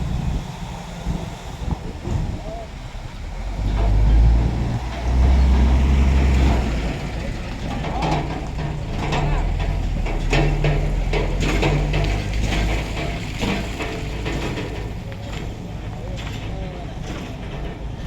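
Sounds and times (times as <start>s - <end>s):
heavy truck running: 0.0s - 18.0s.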